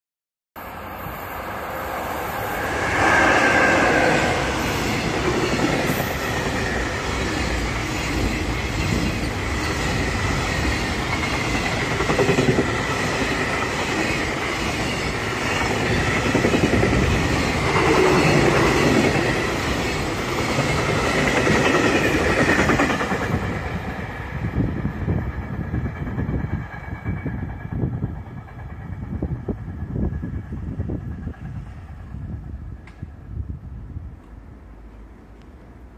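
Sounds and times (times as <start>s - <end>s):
electric locomotive passing: 0.6s - 35.9s.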